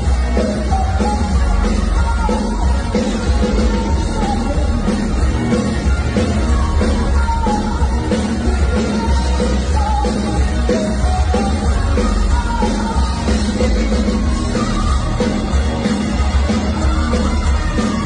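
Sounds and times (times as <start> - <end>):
woman singing into a microphone: 0.0 - 15.6
live rock band playing: 0.0 - 18.0.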